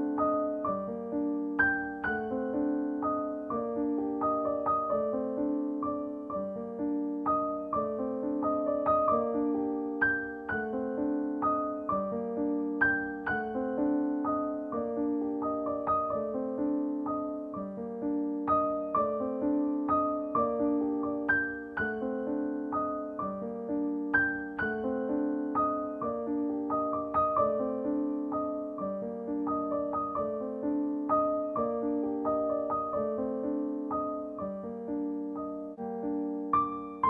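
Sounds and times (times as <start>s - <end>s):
gentle solo piano music: 0.0s - 37.0s.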